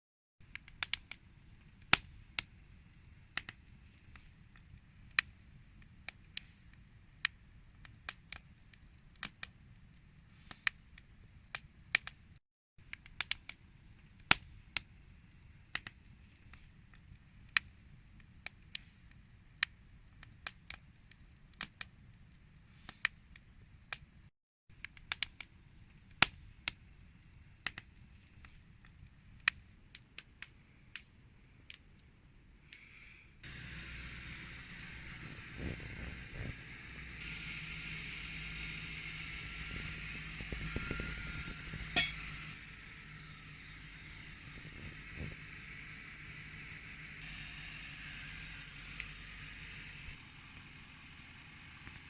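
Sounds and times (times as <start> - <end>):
fire popping and snapping: 0.4 - 47.3
campfire crackling: 0.4 - 52.0
low rumble of fire: 0.4 - 52.0.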